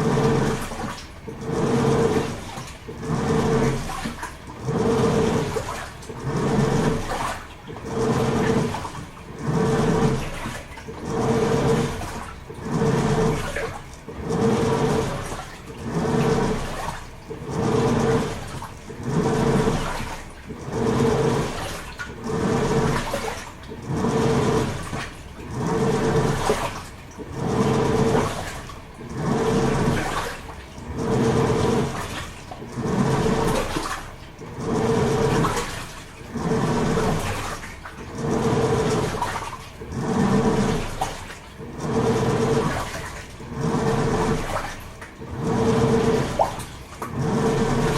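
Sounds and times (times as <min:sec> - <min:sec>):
washing machine motor humming: 0:00.0 - 0:47.9
water churning: 0:00.0 - 0:47.9.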